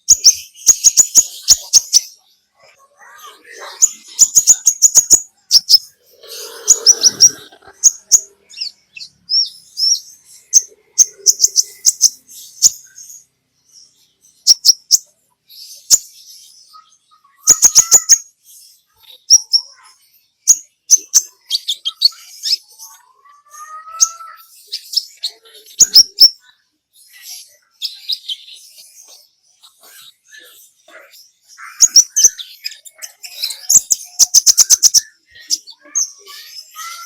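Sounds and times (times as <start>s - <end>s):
sunbird chirping and trilling: 0.0s - 37.0s.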